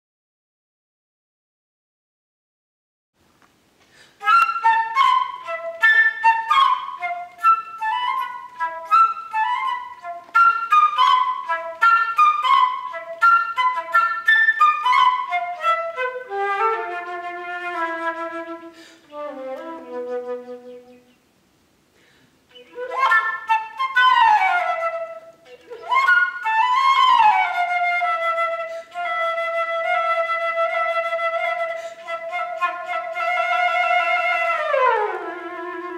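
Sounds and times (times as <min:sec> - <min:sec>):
solo flute playing: 0:04.2 - 0:21.2, 0:22.5 - 0:35.9.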